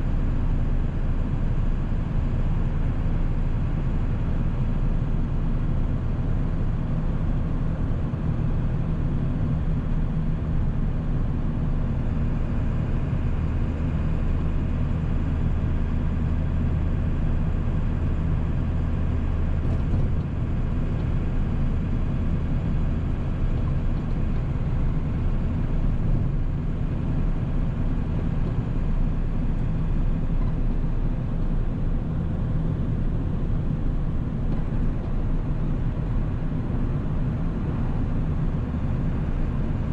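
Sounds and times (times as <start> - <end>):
diesel engine droning: 0.0 - 39.9
road noise: 0.0 - 39.9.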